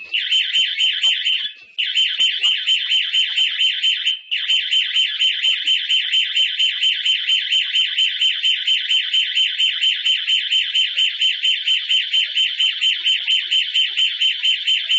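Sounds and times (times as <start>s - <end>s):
pulsing alarm siren: 0.0s - 14.9s.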